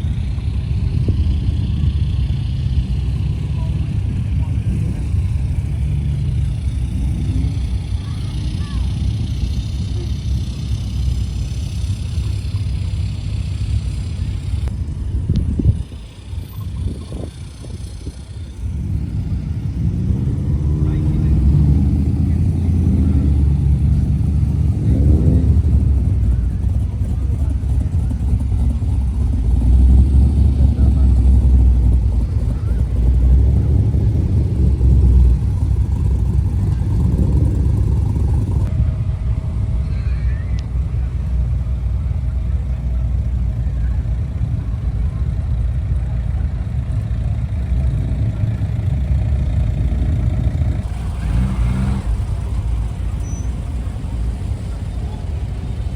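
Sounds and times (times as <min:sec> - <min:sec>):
car engine idling low rumble: 0:00.0 - 0:55.9.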